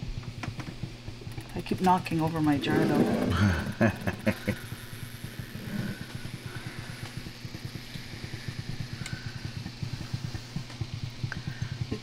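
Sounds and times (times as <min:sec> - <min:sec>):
distiller rapid pulsing: 0:00.0 - 0:12.0.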